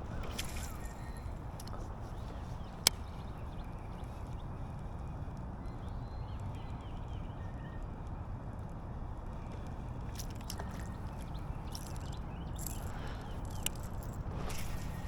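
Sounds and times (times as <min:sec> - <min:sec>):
faint birds chirping: 0:00.0 - 0:07.9, 0:09.3 - 0:15.0.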